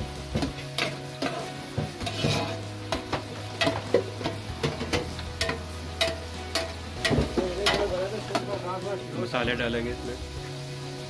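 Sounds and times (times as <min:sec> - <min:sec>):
onions and tomatoes sizzling: 0:00.0 - 0:11.0.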